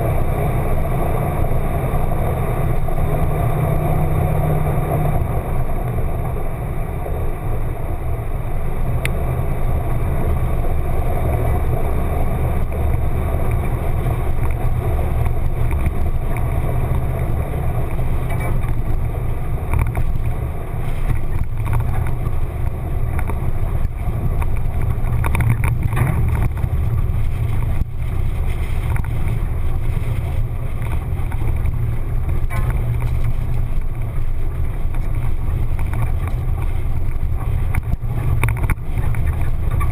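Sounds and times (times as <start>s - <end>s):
muffled engine rumble: 0.0s - 39.9s.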